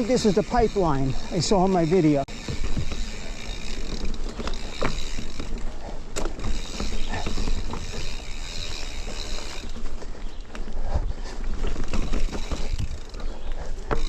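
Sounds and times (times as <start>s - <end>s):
bike rattling and clicking: 0.0s - 14.0s.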